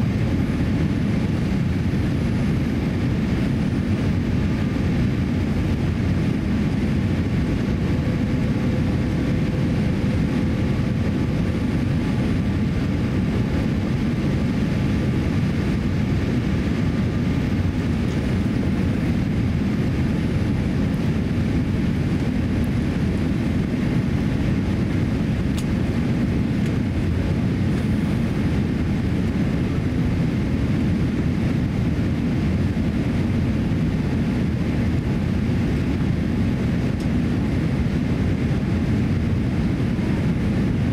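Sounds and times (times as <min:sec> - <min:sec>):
airliner jet engines: 0:00.0 - 0:40.9.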